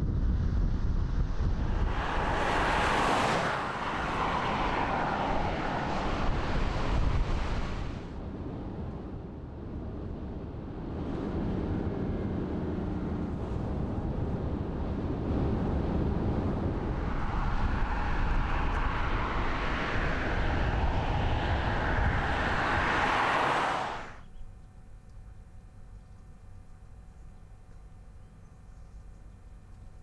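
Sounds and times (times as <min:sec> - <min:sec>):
car road and wind noise: 0:00.0 - 0:24.5.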